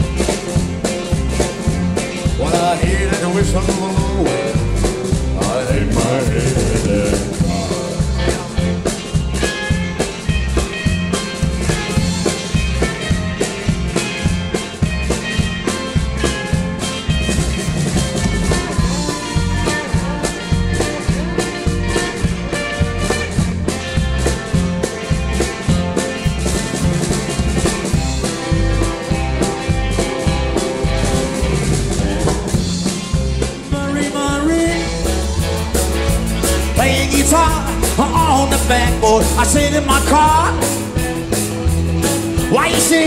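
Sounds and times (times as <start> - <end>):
bass: 0.0 - 43.0
electric guitar: 0.0 - 43.0
steady drum beat: 0.0 - 43.0.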